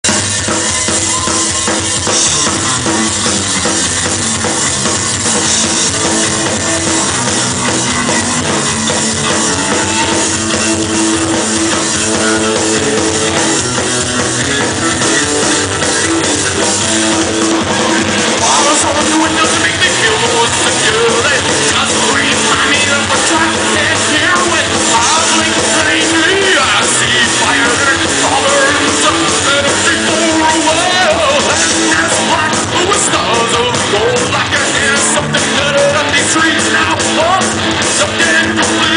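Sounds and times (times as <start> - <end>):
punk rock band playing live: 0.0 - 38.9.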